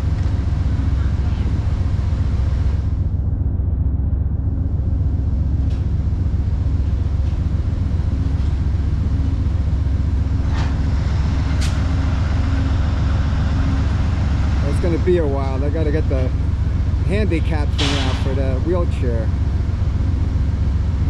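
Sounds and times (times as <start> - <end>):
diesel locomotives idling: 0.0 - 21.0
faint hum: 0.0 - 21.0.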